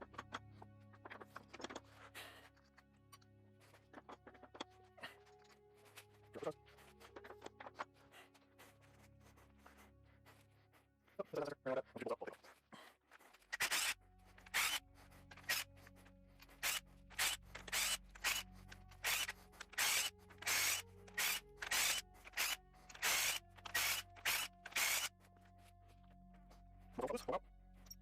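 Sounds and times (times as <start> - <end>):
ambient music drone: 0.0 - 28.0.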